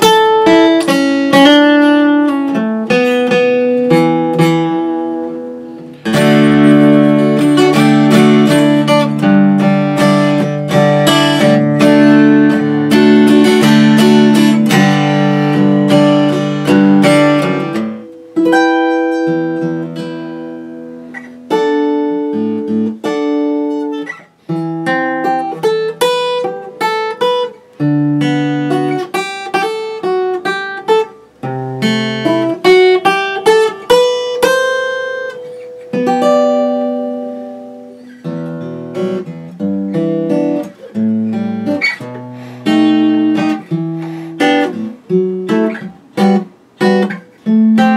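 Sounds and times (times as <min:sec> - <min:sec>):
acoustic guitar strummed chords: 0:00.0 - 0:47.9
fingerpicked acoustic guitar: 0:00.0 - 0:47.9.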